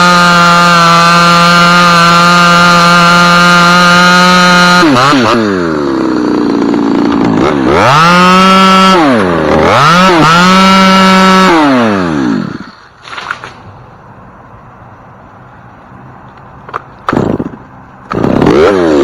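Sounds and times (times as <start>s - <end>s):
chainsaw revving: 0.0s - 13.5s, 17.0s - 19.0s.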